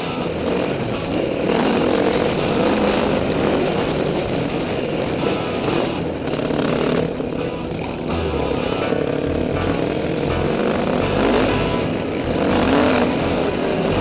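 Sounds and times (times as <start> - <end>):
trail bike engine running: 0.0 - 14.0.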